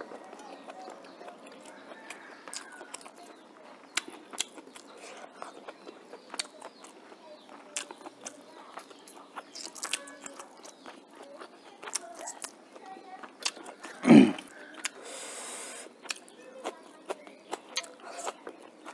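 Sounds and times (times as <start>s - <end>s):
person chewing with wet smacks: 0.0s - 18.9s.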